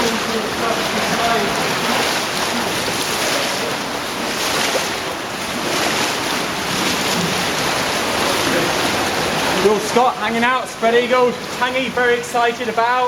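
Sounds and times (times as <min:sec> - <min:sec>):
cave stream rushing: 0:00.0 - 0:13.0.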